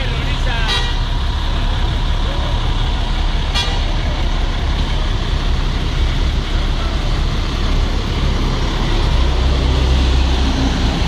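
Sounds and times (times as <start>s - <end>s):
bus passing close by: 0.0s - 11.0s
street traffic engine rumble: 0.0s - 11.0s.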